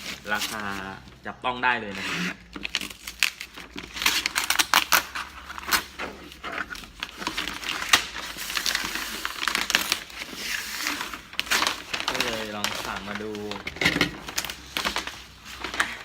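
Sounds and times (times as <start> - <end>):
cardboard packaging crinkling: 0.0 - 1.3, 2.4 - 16.0.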